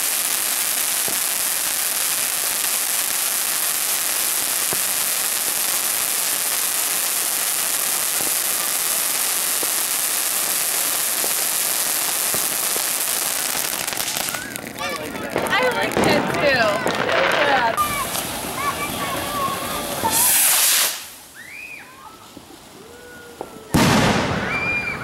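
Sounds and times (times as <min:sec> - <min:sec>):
firework fountain hissing: 0:00.0 - 0:25.0
faint crackles: 0:03.6 - 0:23.7.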